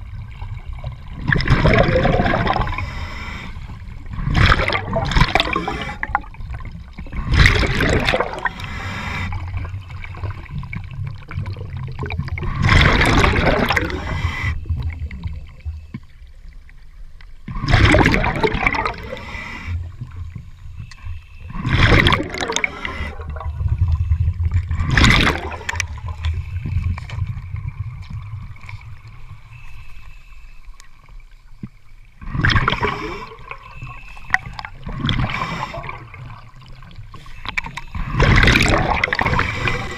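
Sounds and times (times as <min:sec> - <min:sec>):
underwater exhaled bubbles rushing: 0:00.0 - 0:29.8, 0:31.1 - 0:39.9
low underwater rumble: 0:00.0 - 0:39.9.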